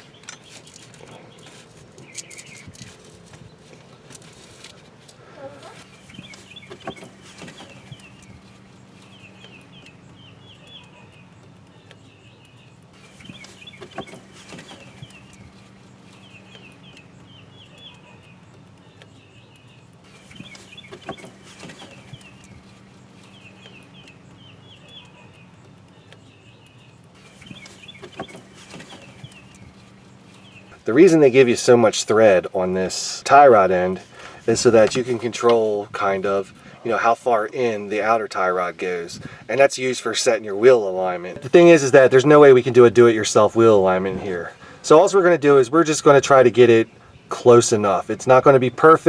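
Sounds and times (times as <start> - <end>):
steady low hum: 0.0 - 48.8
birds chirping: 0.0 - 49.0.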